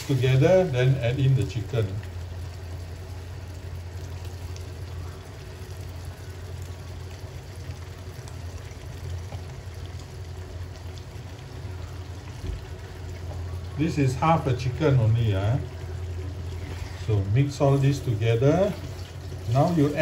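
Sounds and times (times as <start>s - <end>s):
low hum: 0.0s - 20.0s
sauce simmering and bubbling: 0.0s - 20.0s.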